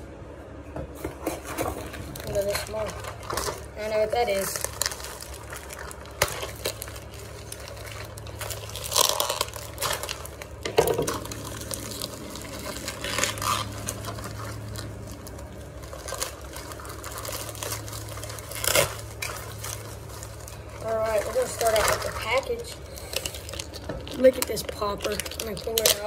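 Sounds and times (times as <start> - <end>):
low steady hum: 0.0 - 26.0
plastic packaging rustling: 0.9 - 26.0.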